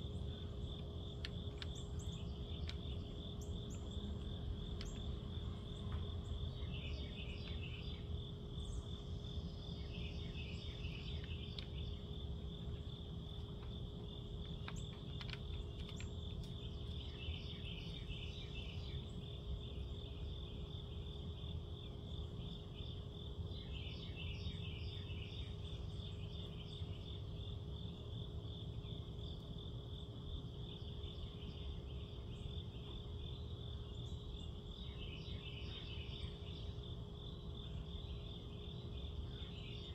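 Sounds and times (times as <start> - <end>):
crickets chirping: 0.0 - 39.9
low steady hum: 0.0 - 39.9.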